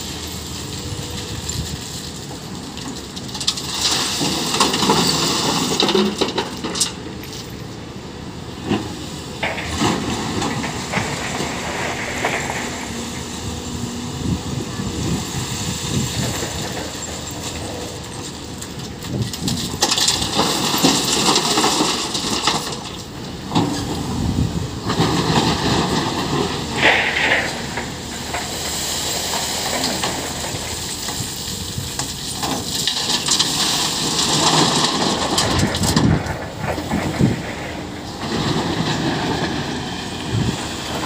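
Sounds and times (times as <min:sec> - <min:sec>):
excavator diesel engine under load: 0:00.0 - 0:41.0.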